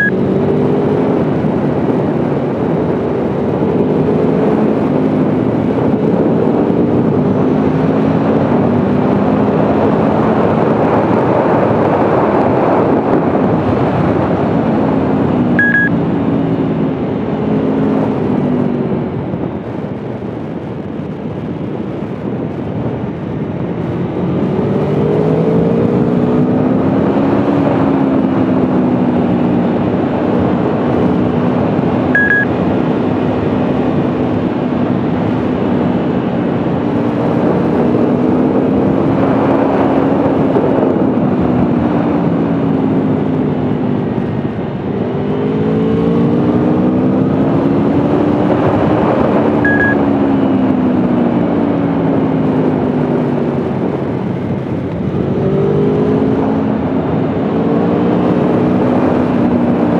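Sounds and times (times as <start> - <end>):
motorcycle engine revving: 0.0 - 18.8, 23.8 - 59.9.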